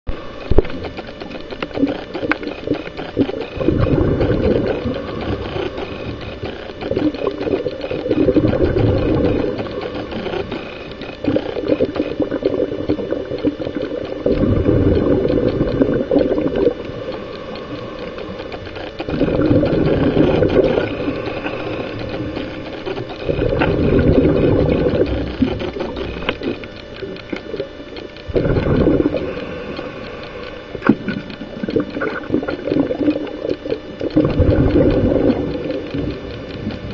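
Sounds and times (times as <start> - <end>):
bubbling exhaled air underwater: 0.1 - 36.9.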